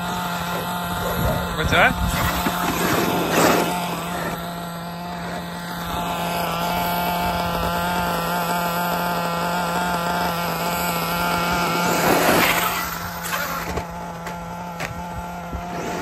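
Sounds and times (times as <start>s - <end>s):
rc truck motor whining: 0.0s - 16.0s
tyre and dirt noise: 0.0s - 16.0s.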